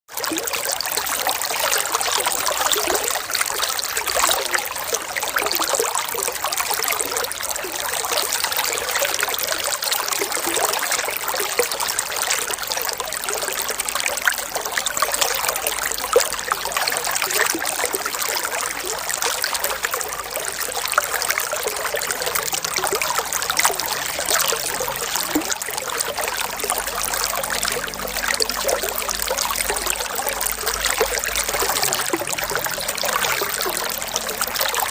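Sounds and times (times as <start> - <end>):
running water flowing: 0.1 - 34.9
small water splashes: 0.1 - 34.9.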